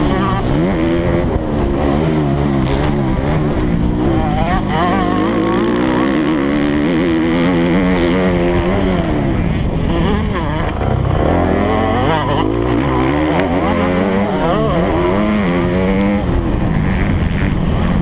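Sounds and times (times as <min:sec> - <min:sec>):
motocross bike engine revving: 0:00.0 - 0:18.0
wind noise: 0:00.0 - 0:18.0.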